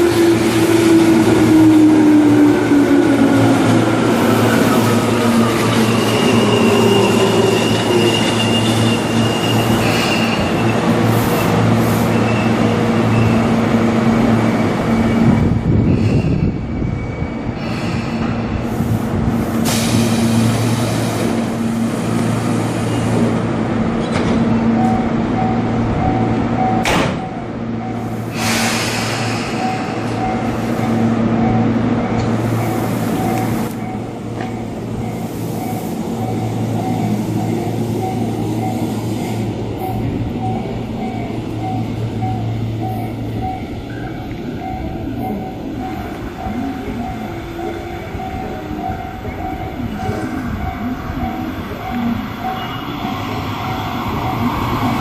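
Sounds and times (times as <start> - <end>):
electric train humming: 0.0 - 16.0, 18.4 - 55.0.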